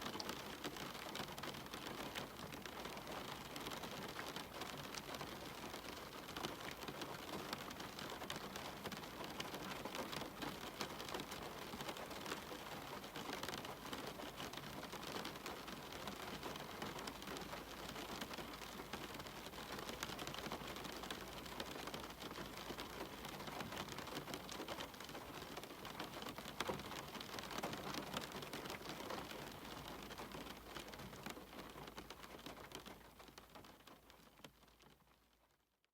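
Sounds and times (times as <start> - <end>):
steady rain pattering: 0.0 - 35.9.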